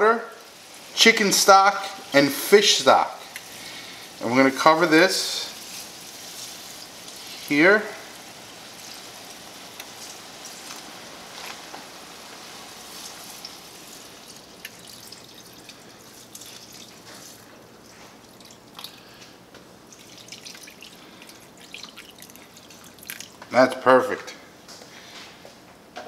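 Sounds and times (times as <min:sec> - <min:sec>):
liquid pouring into a pan: 0:01.8 - 0:19.2, 0:19.8 - 0:23.4.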